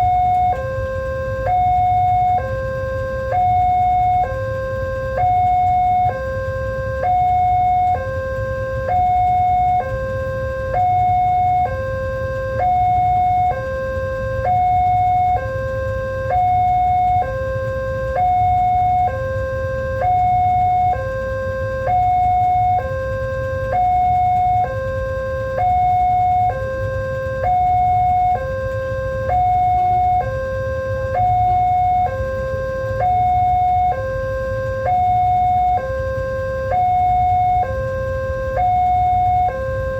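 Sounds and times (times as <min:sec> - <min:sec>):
low steady rumble: 0:00.0 - 0:39.9
two-tone crossing alarm: 0:00.0 - 0:39.9.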